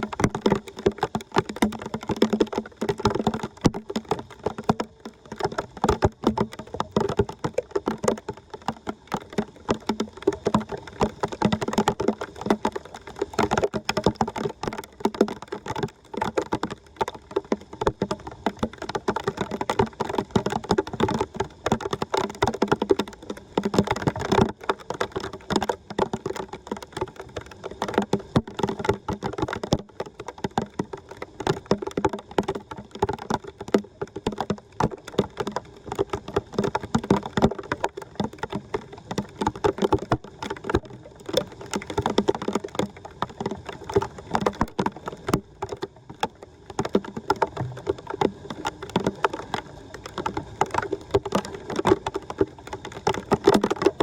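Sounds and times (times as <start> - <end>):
water splashing and crackling: 0.0 - 54.0.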